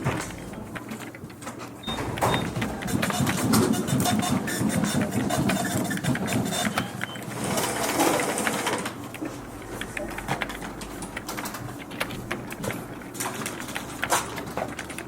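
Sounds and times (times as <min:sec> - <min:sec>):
office machine clicking: 0:00.0 - 0:15.0.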